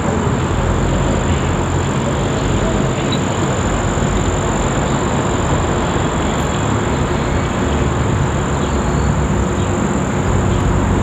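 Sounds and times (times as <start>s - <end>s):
distant helicopter rotor rumble: 0.0s - 11.0s.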